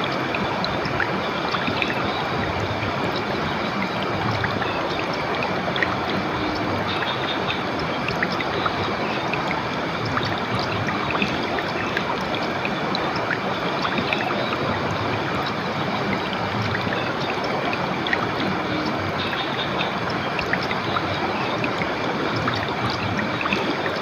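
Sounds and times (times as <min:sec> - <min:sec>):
river water rushing: 0:00.0 - 0:24.0
small splashes and trickles: 0:00.0 - 0:24.0.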